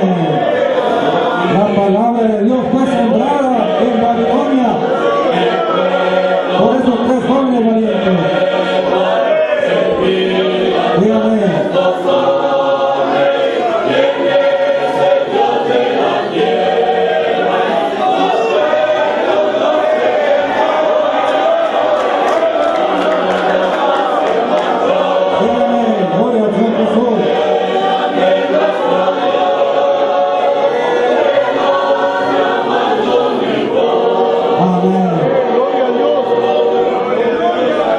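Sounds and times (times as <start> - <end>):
choir singing a hymn: 0.0 - 37.9.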